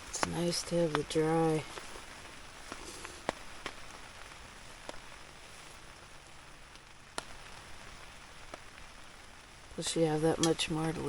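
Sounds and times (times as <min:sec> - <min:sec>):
single raindrop hits: 0:00.0 - 0:09.2
rain on a tarp: 0:00.0 - 0:11.0.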